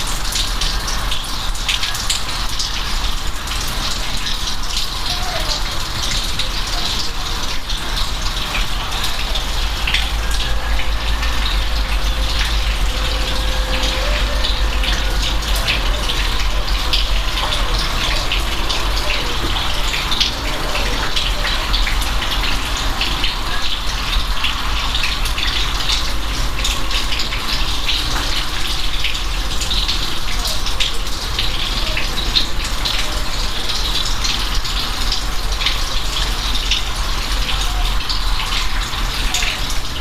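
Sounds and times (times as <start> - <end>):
raindrops splashing: 0.0 - 40.0
steady rain falling: 0.0 - 40.0.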